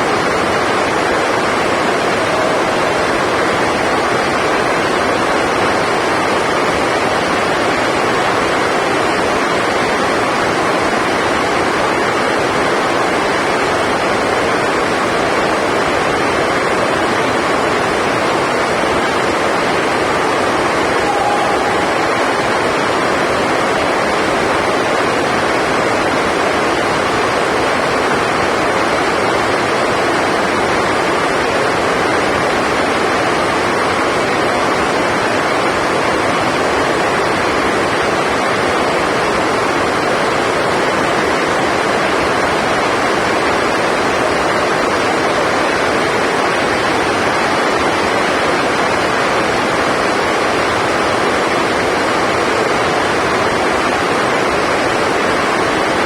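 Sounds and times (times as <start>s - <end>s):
heavy rain drumming on a roof: 0.0s - 56.0s.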